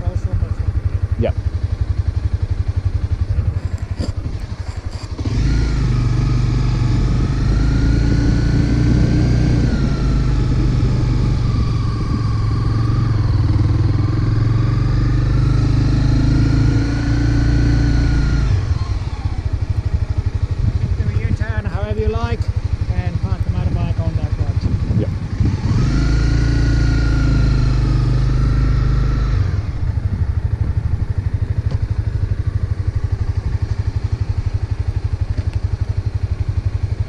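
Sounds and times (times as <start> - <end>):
motorcycle engine: 0.0 - 37.0.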